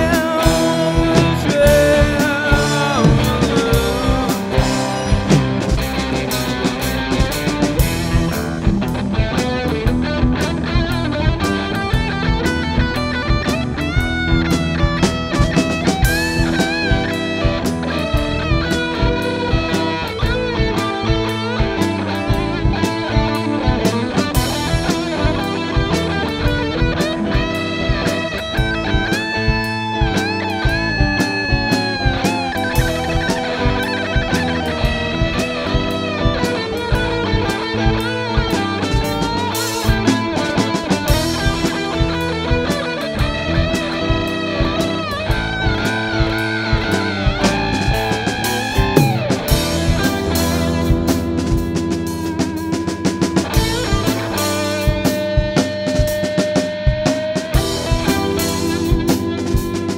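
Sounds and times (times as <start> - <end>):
bass guitar: 0.0 - 59.9
drum kit: 0.0 - 59.9
electric guitar lead with bends: 0.0 - 59.9.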